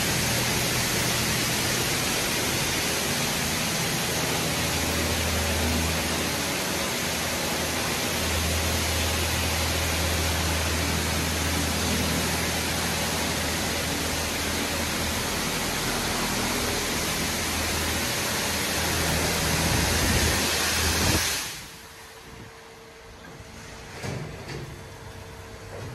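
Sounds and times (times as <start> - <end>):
low motor hum: 0.0 - 23.7
car wash rushing noise: 0.0 - 25.8.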